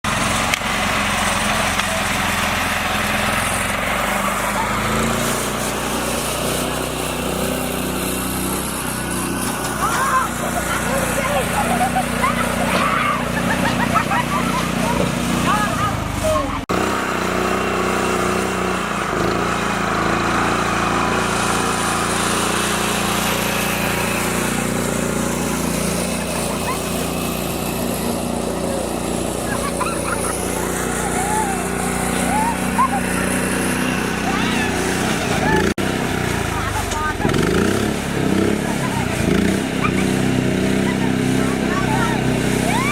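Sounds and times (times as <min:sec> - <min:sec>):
small tractor engine running: 0:00.0 - 0:42.9.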